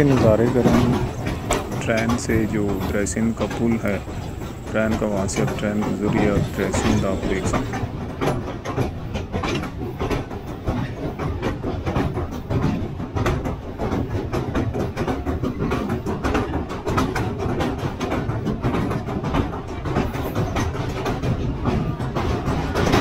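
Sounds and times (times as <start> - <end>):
train rumbling over bridge: 0.0 - 23.0
wheels clattering over rails: 0.0 - 23.0.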